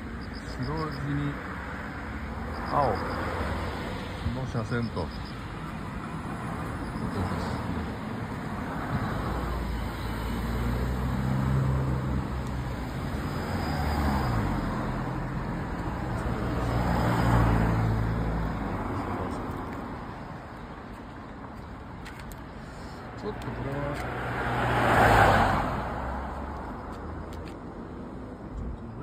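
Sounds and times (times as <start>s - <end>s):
cars passing: 0.0s - 29.0s.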